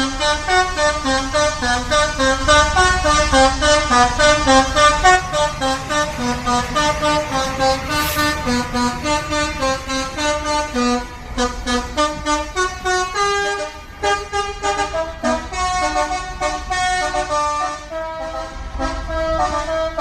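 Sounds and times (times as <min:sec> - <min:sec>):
multi-tone bus horn melody: 0:00.0 - 0:20.0.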